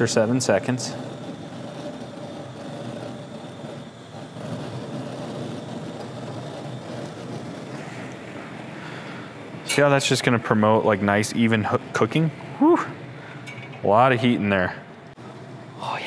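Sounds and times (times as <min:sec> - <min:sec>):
gas grill burners burning: 0:00.0 - 0:16.0.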